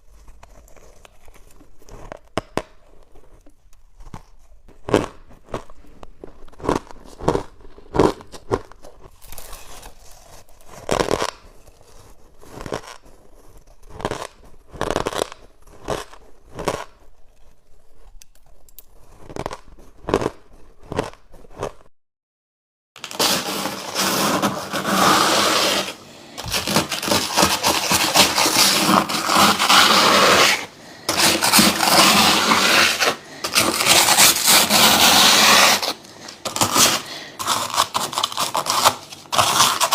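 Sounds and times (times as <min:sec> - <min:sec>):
scraping freezer frost: 0:00.0 - 0:21.9, 0:23.0 - 0:39.9.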